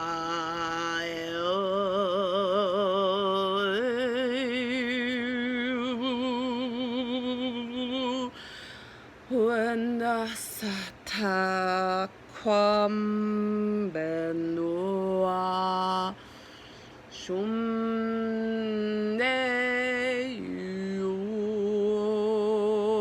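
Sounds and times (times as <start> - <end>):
person singing wordless tones: 0.0 - 23.0.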